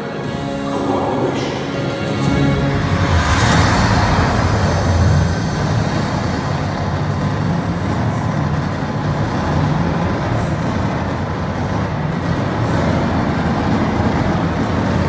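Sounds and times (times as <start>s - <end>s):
low sound system drone: 0.0s - 15.0s.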